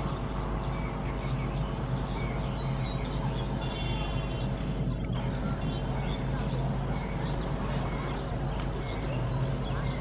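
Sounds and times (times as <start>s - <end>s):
birds chirping: 0.0s - 10.0s
constant drone: 0.0s - 10.0s.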